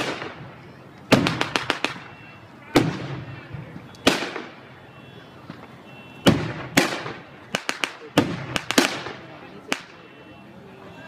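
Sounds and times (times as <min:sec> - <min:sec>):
firecracker sharp cracks: 0:00.0 - 0:04.6, 0:05.4 - 0:10.1
firework bangs with echoes: 0:00.0 - 0:04.6, 0:05.4 - 0:10.1.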